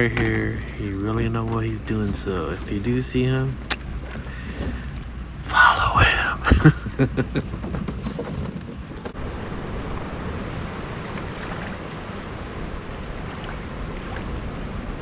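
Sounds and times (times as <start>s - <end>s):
ocean water around kayak: 0.0s - 15.0s
wind on microphone: 0.0s - 15.0s.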